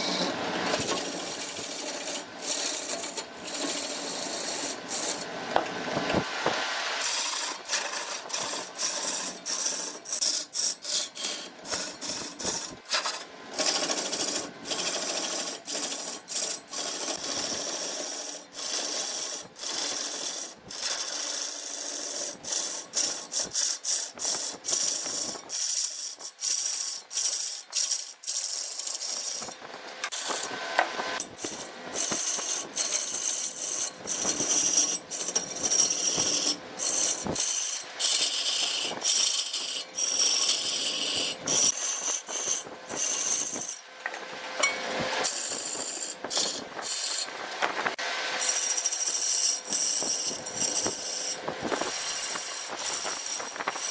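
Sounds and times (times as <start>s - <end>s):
lathe tool scraping spinning wood: 0.0s - 53.9s.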